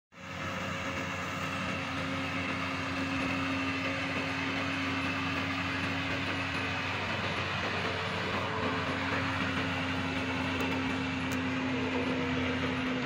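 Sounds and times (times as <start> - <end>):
truck diesel engine passing: 0.2 - 13.0.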